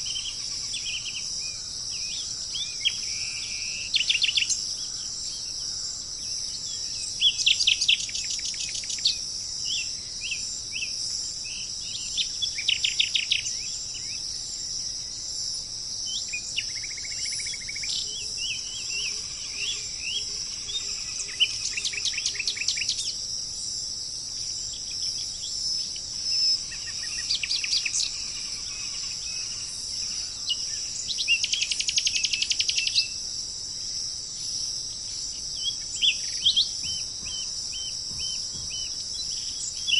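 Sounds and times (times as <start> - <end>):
birds singing trilled phrases: 0.0 - 15.0, 16.0 - 23.3, 24.4 - 33.2, 34.4 - 39.9
insects chorus: 0.0 - 39.9.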